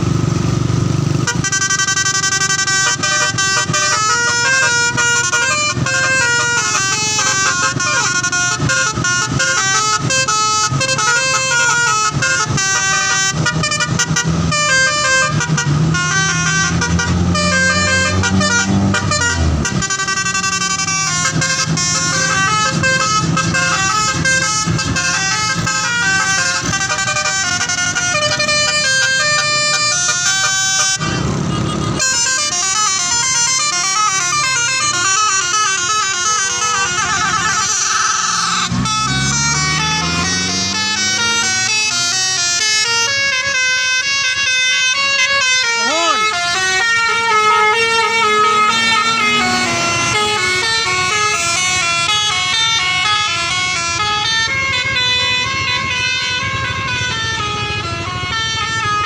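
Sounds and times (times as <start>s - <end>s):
bus musical horns: 1.0s - 59.0s.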